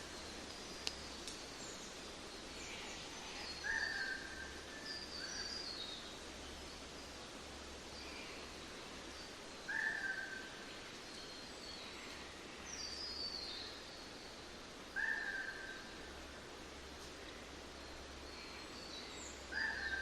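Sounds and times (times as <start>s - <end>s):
wild birds calling: 0.0s - 6.0s, 8.0s - 20.0s
steady outdoor hiss: 0.0s - 20.0s.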